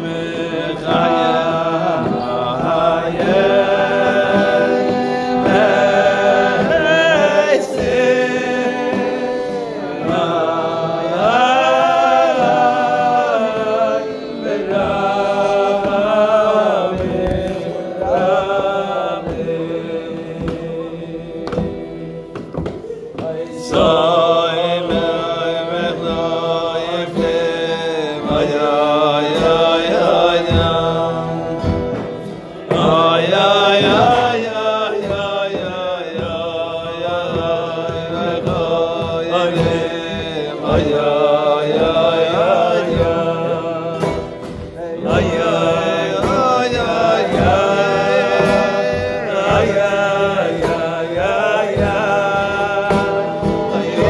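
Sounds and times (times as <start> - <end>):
group of voices singing: 0.0 - 54.0
light steady beat: 0.0 - 54.0.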